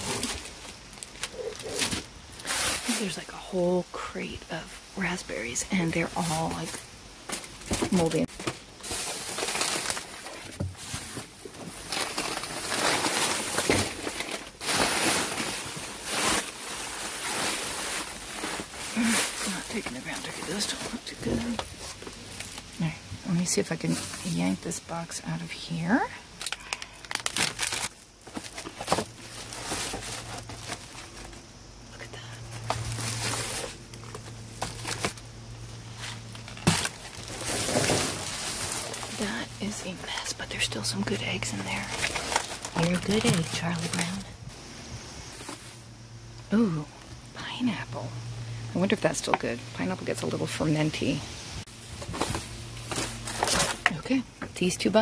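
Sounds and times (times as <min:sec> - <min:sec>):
plastic bags rustling: 0:00.0 - 0:44.6, 0:45.2 - 0:46.3, 0:51.0 - 0:55.0.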